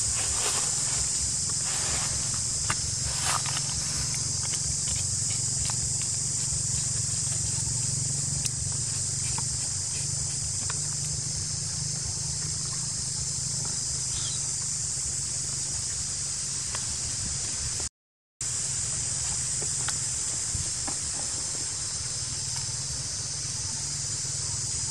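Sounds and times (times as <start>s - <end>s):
insects droning: 0.0s - 24.9s.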